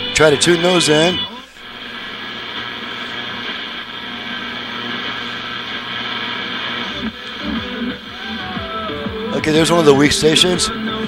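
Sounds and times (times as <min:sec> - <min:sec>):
low speaker hum: 0:00.0 - 0:11.0
radio static hiss: 0:00.0 - 0:11.0.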